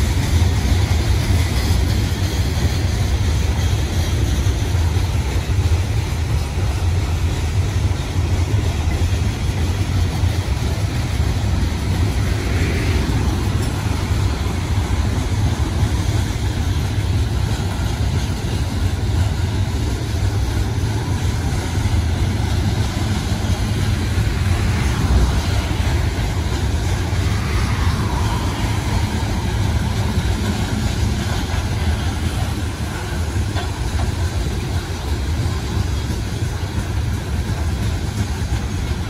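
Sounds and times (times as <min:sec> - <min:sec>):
freight cars rolling on rails: 0:00.0 - 0:39.0.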